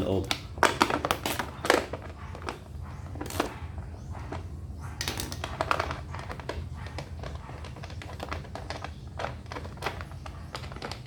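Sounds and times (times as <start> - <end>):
plastic parts and tools clicking: 0.2 - 3.6, 4.2 - 11.0.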